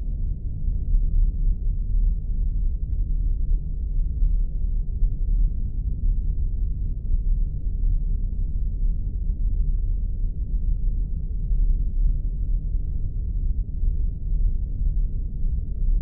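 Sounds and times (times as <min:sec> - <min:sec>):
spaceship engine deep rumble: 0:00.0 - 0:16.0.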